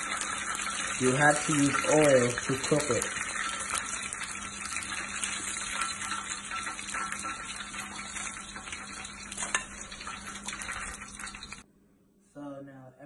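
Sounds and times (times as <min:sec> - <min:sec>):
oil sizzling in a frying pan: 0:00.0 - 0:11.6.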